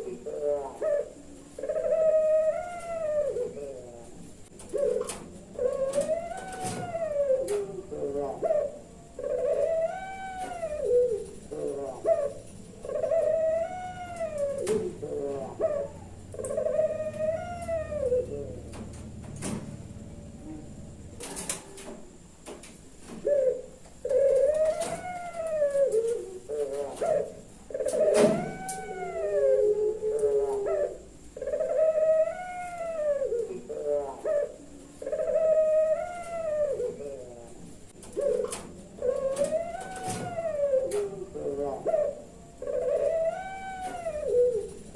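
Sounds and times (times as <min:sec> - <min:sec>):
collared dove cooing: 0:00.0 - 0:44.9.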